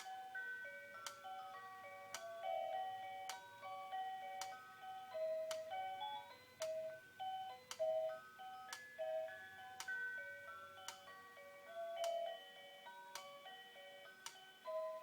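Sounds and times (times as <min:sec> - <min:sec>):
music box melody: 0:00.0 - 0:15.0.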